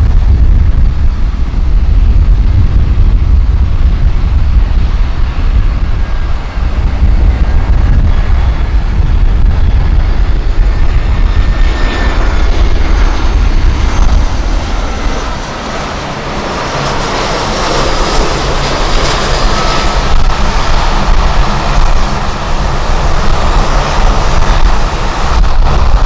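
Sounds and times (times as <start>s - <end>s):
airliner engines passing: 0.0s - 26.0s
wind on microphone: 0.0s - 26.0s.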